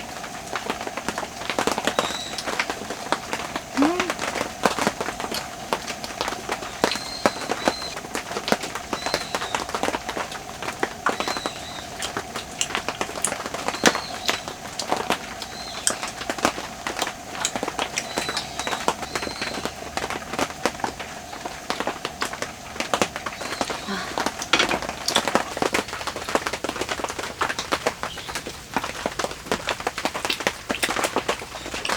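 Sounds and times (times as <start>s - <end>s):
raindrops tapping: 0.0s - 31.9s.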